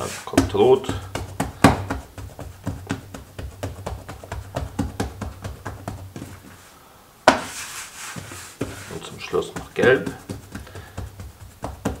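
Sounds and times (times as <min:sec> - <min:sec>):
dough slapping down: 0:00.0 - 0:06.6, 0:07.3 - 0:12.0
fingertips patting dough: 0:00.0 - 0:06.6, 0:07.3 - 0:12.0.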